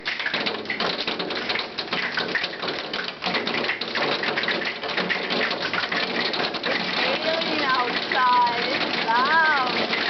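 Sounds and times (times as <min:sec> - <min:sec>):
hail pelting down: 0:00.0 - 0:10.0.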